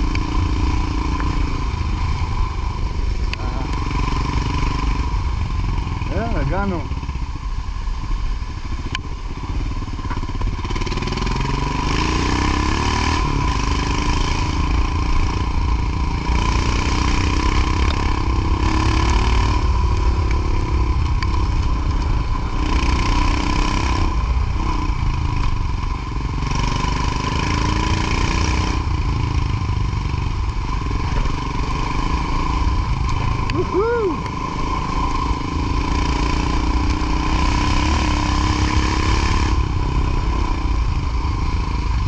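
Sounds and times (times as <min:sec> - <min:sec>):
motorcycle engine revving: 0:00.0 - 0:42.0
steady whine: 0:00.0 - 0:42.0.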